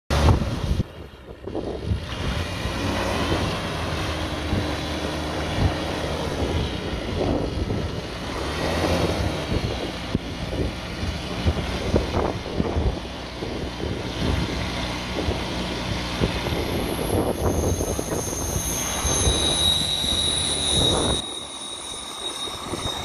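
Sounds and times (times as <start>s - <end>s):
wind buffeting microphone: 0.1s - 21.4s, 22.4s - 23.0s
rotorcraft engine running: 0.1s - 23.0s.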